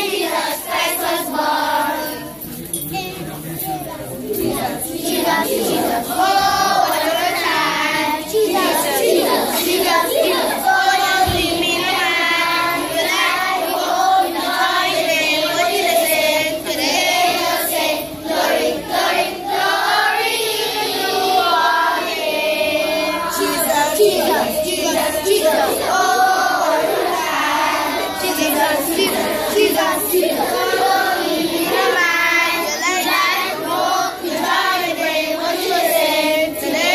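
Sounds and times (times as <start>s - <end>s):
children's choir singing a carol: 0.0s - 36.9s.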